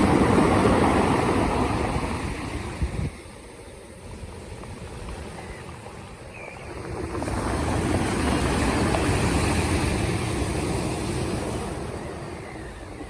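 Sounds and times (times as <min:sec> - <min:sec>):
surf washing in: 0:00.0 - 0:13.0
wind buffeting microphone: 0:00.0 - 0:13.0.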